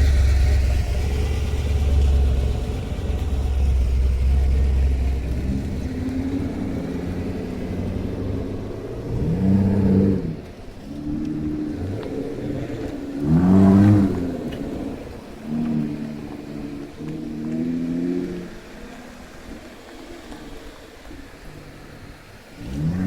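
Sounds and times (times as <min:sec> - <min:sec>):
car engine revving: 0:00.0 - 0:23.0
car engines driving past: 0:00.0 - 0:23.0.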